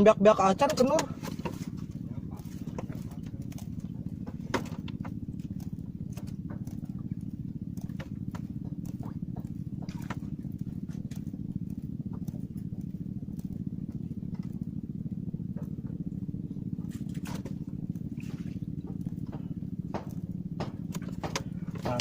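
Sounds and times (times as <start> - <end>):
fast low pulsing: 0.0 - 22.0
light clicks and taps: 0.6 - 14.7, 16.8 - 22.0.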